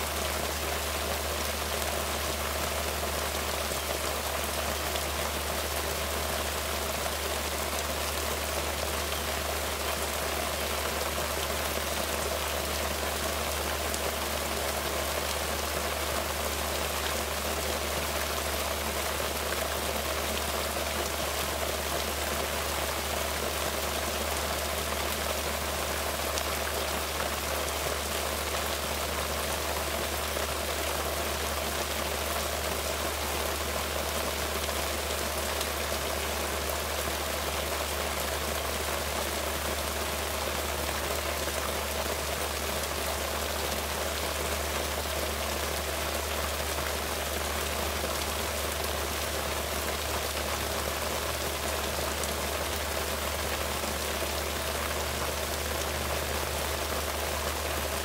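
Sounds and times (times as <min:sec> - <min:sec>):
rain on ground and foliage: 0:00.0 - 0:58.0.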